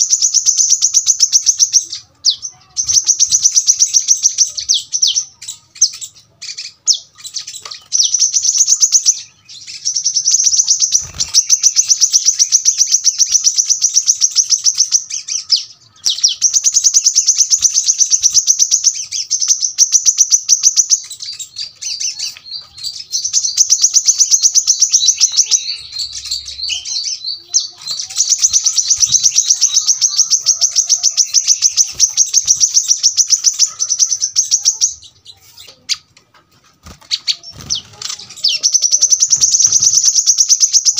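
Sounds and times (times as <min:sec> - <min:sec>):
bird singing fast high runs: 0:00.0 - 0:35.3, 0:36.8 - 0:40.9.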